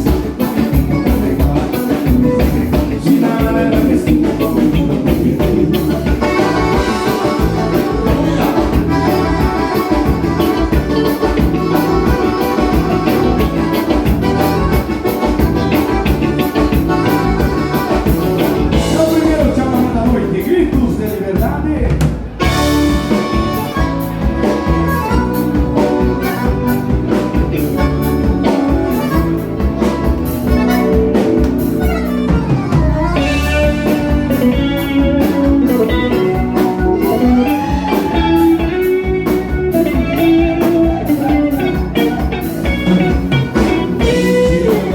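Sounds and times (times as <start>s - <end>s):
live dance band playing: 0.0s - 44.9s.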